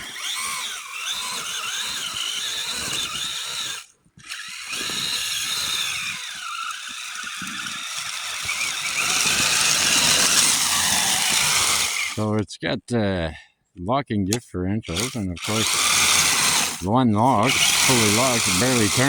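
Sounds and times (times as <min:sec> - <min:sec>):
rc truck motor whining: 0:00.0 - 0:12.4, 0:14.9 - 0:19.0.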